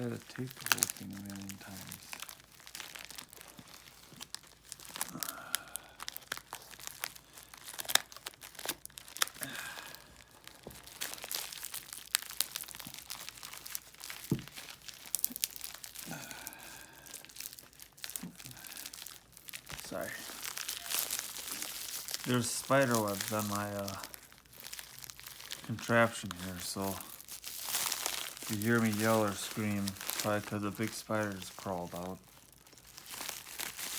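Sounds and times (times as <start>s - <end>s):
packing tape tearing and peeling: 0.0s - 33.9s
wrapping crinkling: 0.0s - 33.9s.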